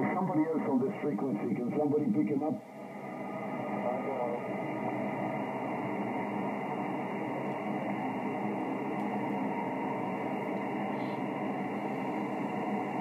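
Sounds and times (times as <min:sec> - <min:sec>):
radio receiver hiss: 0:00.0 - 0:02.6, 0:03.7 - 0:13.0.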